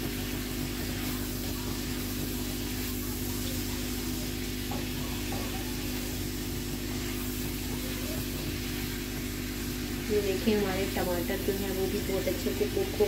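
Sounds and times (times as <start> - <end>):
food sizzling in wok: 0.0 - 13.0
spatula stirring: 0.0 - 13.0.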